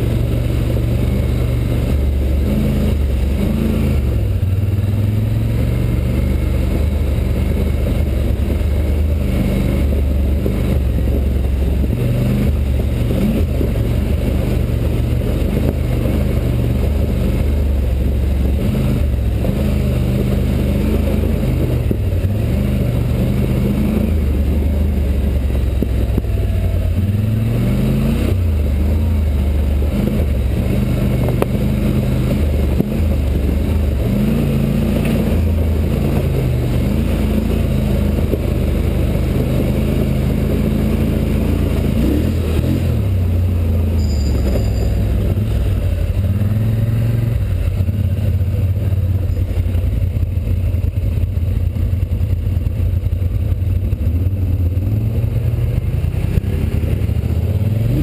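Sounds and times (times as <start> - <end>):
atv engine revving: 0.0 - 58.0
tyres on rocky dirt trail: 0.0 - 58.0.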